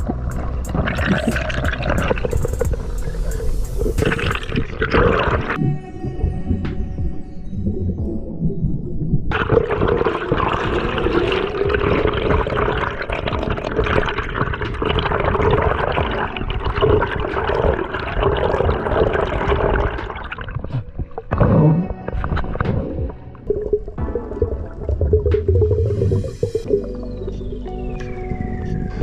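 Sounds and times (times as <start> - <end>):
water rushing and bubbling: 0.0 - 29.0.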